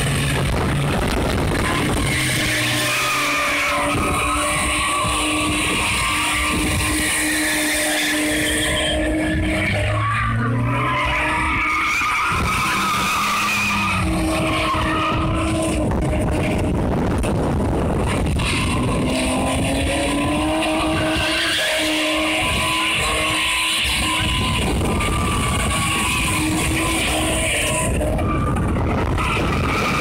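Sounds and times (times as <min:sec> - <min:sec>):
car engine at high revs: 0:00.0 - 0:30.0.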